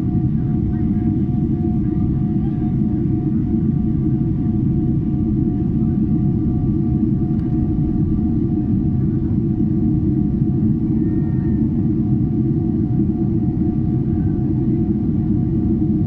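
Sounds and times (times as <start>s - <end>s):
aircraft cabin rumble: 0.0s - 16.0s
faint steady engine tone: 0.0s - 16.0s.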